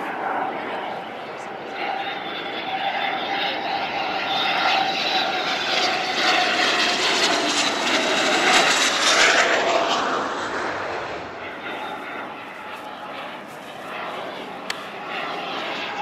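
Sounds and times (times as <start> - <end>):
jet aircraft passing low: 0.0 - 16.0.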